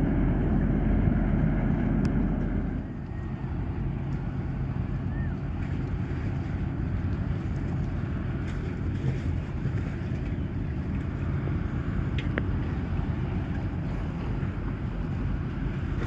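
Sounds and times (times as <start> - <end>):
ferry engines rumbling: 0.0 - 16.0
wind buffeting microphone: 0.0 - 16.0.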